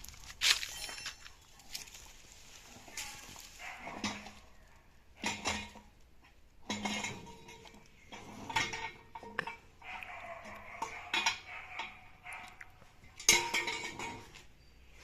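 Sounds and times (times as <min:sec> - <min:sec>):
metal tools clanking on wheel: 0:00.0 - 0:15.0.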